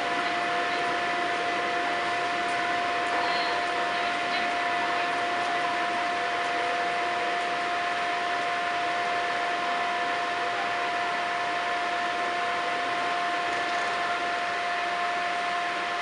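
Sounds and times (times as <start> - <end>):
electric locomotive hiss and whine: 0.0 - 16.0.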